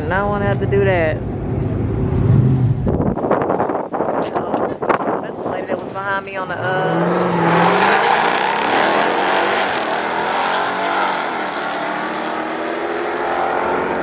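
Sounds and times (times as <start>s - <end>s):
drag racing car engine at full throttle: 0.0s - 14.0s.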